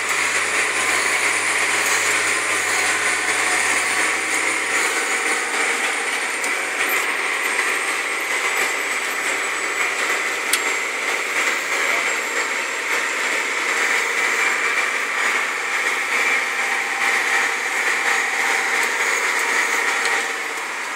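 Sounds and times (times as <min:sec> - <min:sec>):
high whine: 0:00.0 - 0:20.9
tractor engine running: 0:00.0 - 0:20.9.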